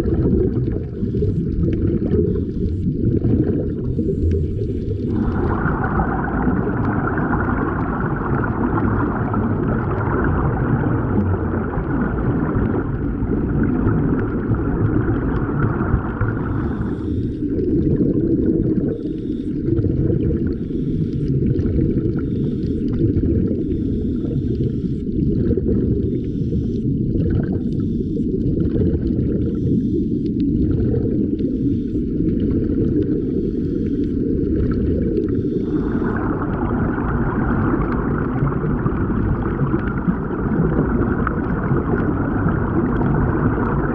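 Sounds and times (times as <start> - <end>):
low underwater rumble: 0.0 - 43.9
underwater air bubbles gurgling: 0.0 - 43.9.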